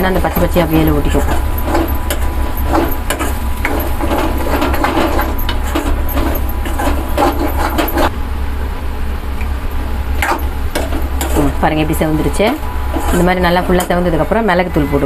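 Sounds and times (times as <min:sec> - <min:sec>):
spoon scraping metal pan: 0:00.0 - 0:08.1, 0:10.2 - 0:15.0
steady low hum: 0:00.0 - 0:15.0.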